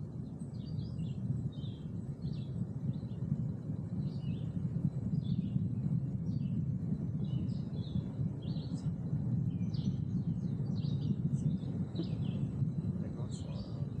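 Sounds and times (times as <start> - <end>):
songbirds chirping: 0.0 - 14.0
steady low rumble: 0.0 - 14.0.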